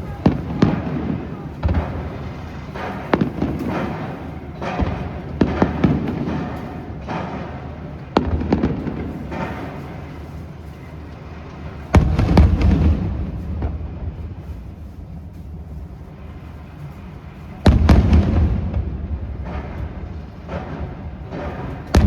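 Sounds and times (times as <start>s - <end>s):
fireworks bangs: 0.0s - 22.0s
fireworks crackle: 0.0s - 22.0s.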